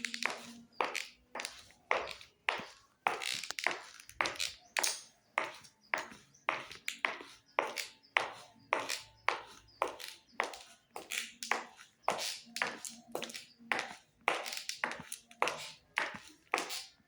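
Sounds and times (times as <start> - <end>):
footsteps walking: 0.0 - 17.0.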